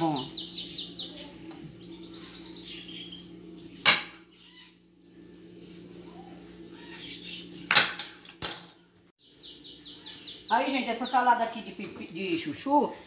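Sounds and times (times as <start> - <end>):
bird chirping: 0.0 - 7.7, 9.2 - 12.9
steady low hum: 0.0 - 13.0.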